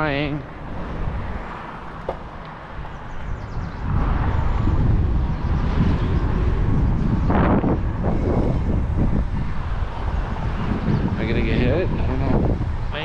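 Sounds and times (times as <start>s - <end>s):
road noise: 0.0s - 13.0s
wind on microphone: 0.0s - 13.0s.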